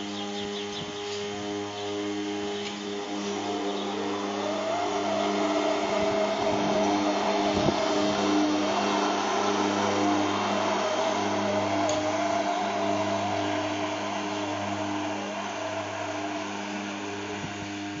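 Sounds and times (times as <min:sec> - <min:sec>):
robotic lawnmower motor hum: 0:00.0 - 0:18.0.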